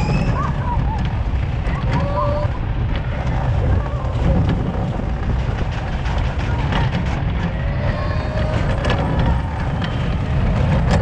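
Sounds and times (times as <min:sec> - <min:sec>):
roller coaster rumbling on track: 0:00.0 - 0:11.0
roller coaster track clacks: 0:00.0 - 0:11.0.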